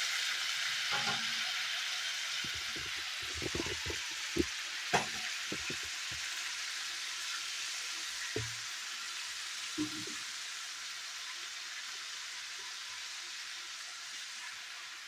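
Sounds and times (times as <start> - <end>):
garlic sizzling in a skillet: 0.0 - 15.0.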